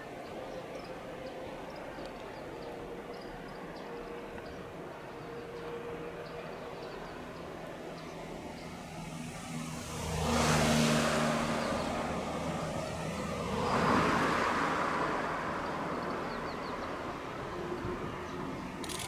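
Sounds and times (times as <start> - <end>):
low engine hum: 0.0 - 19.0
vehicles passing close by: 0.0 - 19.0.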